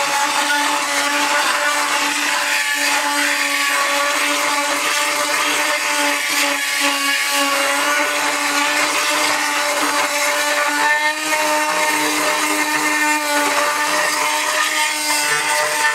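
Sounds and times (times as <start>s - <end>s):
blade scraping tile mortar: 0.0s - 15.9s.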